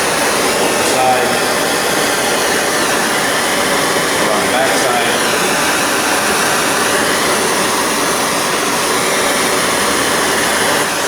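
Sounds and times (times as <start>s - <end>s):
torch flame hissing: 0.0s - 11.0s.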